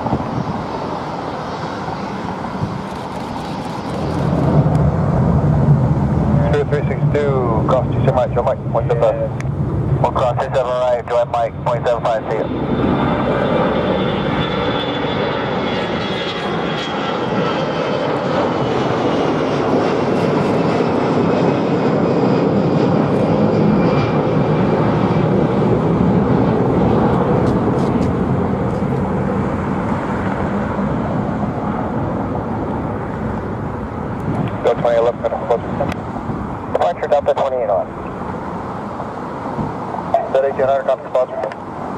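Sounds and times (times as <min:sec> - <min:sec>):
high jet whine: 0:00.0 - 0:41.9
jet airliner roar: 0:00.0 - 0:41.9.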